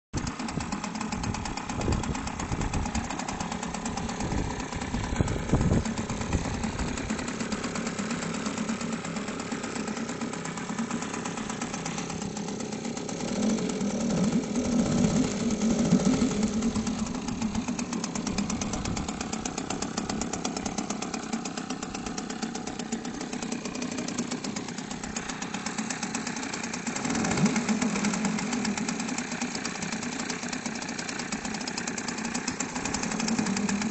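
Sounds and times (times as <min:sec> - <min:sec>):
outboard motor idling: 0:00.2 - 0:33.9.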